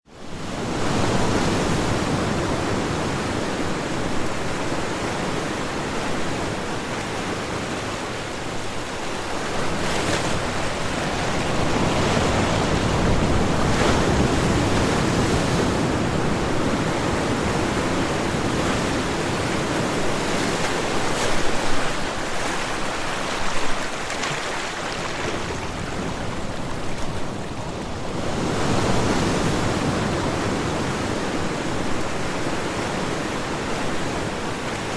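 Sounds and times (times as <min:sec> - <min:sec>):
ocean waves breaking on shore: 0:00.1 - 0:34.9.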